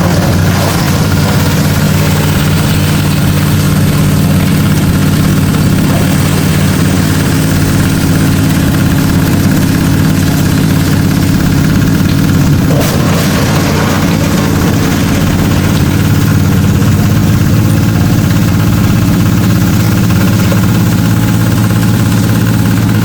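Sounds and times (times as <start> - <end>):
waste sorting machine droning: 0.0 - 23.0.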